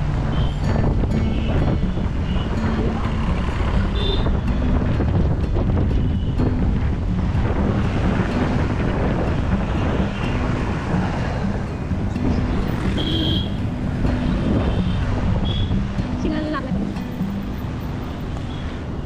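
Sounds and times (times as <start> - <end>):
low engine and road hum: 0.0 - 19.0
wind buffeting microphone: 0.0 - 19.0.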